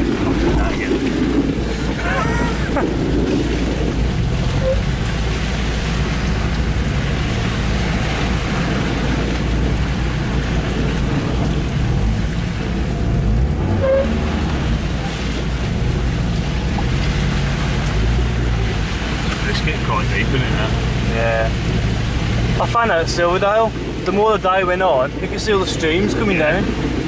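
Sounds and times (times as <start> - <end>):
car engine working hard: 0.0 - 27.0
tyres rushing through mud: 0.0 - 27.0.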